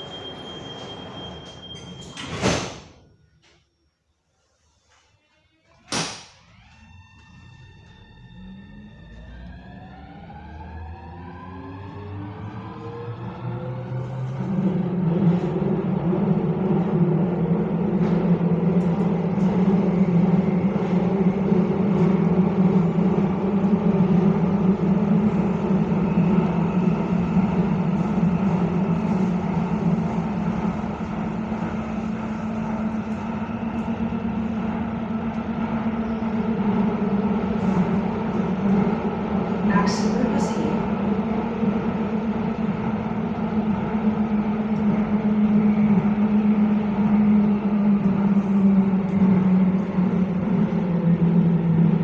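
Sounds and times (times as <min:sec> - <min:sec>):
train rumbling through tunnel: 0:00.0 - 0:52.0.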